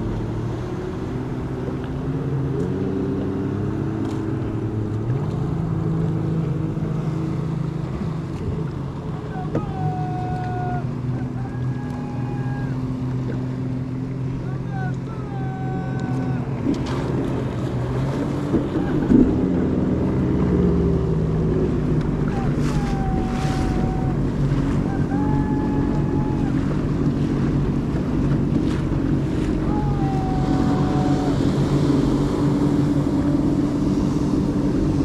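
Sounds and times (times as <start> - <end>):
jet ski engine running: 0.0 - 35.0
water rushing: 0.0 - 35.0
wind buffeting microphone: 2.5 - 35.0.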